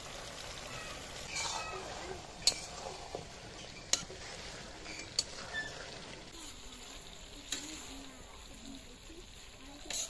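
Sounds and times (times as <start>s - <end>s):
curry sizzling in a pan: 0.0s - 10.0s
wood fire: 0.0s - 10.0s.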